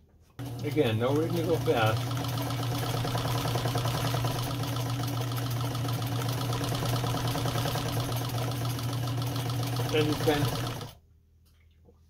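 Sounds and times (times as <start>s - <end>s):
sewing machine running: 0.4s - 11.0s.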